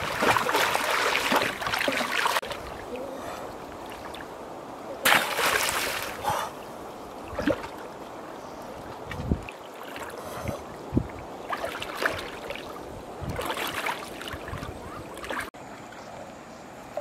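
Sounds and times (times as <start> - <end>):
water splashing: 0.0 - 15.6.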